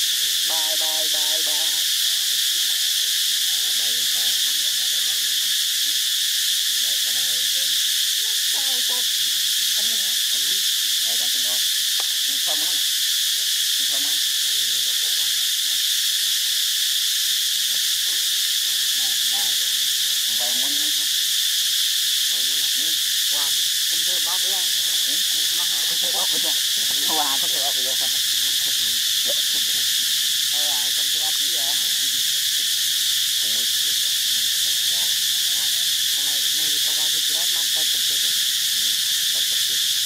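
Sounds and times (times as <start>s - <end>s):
high-pitched insect chorus: 0.0s - 40.0s.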